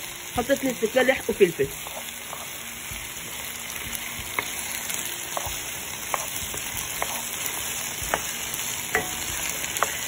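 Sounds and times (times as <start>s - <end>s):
potatoes sizzling in hot oil: 0.0s - 10.0s.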